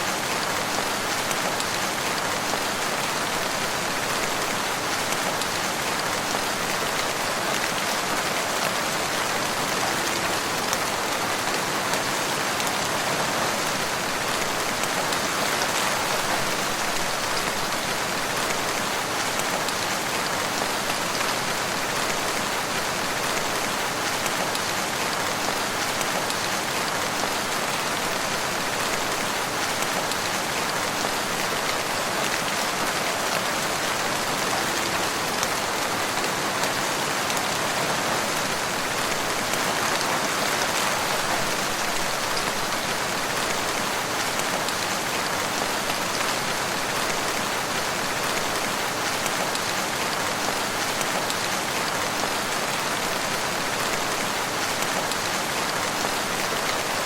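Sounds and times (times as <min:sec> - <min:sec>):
rain falling in woodland: 0:00.0 - 0:57.0.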